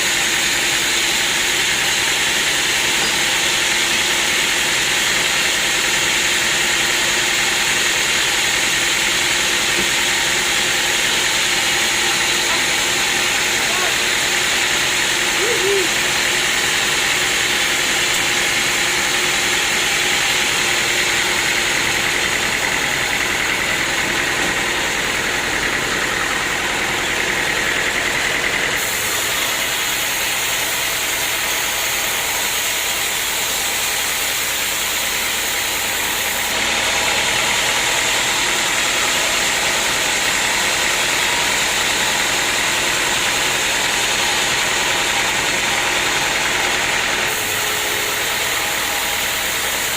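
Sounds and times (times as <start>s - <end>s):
sawmill machinery drone: 0.0s - 49.9s.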